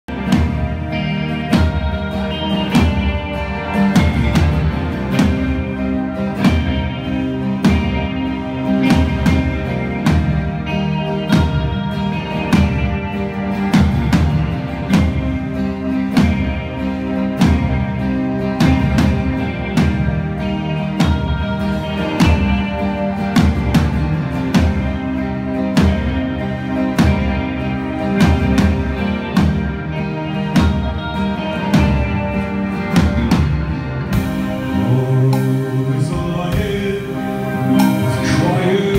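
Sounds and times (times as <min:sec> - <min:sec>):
acoustic guitar strumming: 0:00.1 - 0:38.9.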